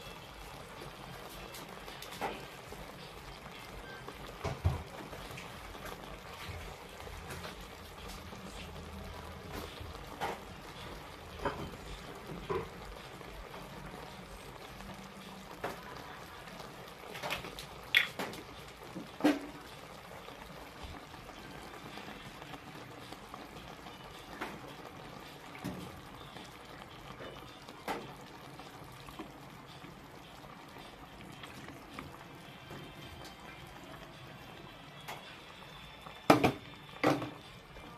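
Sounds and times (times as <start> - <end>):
gas burner hissing: 0.0 - 37.9.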